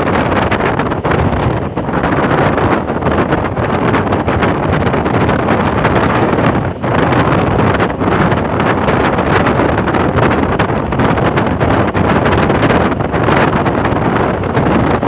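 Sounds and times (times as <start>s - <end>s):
car travelling at speed: 0.0s - 15.0s
wind buffeting microphone: 0.0s - 15.0s.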